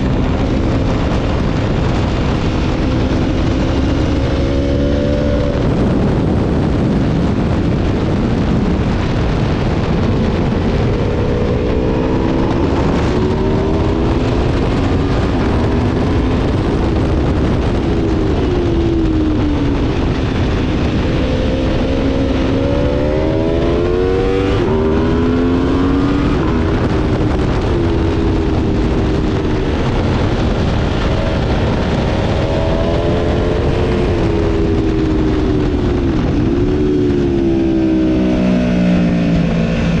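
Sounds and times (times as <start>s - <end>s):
motorcycle engine revving: 0.0s - 40.0s
wind noise: 0.0s - 40.0s.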